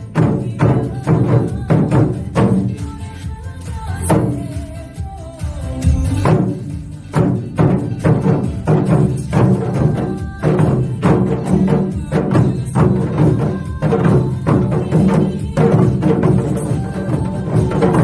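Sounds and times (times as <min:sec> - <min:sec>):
upbeat music: 0:00.0 - 0:18.0.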